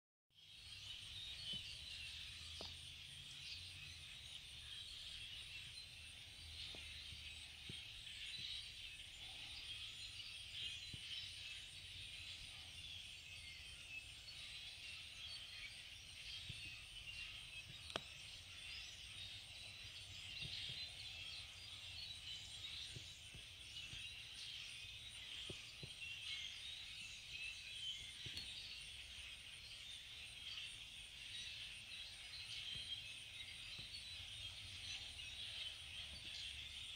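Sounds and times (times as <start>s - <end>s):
flock of birds chirping: 0.4s - 36.9s.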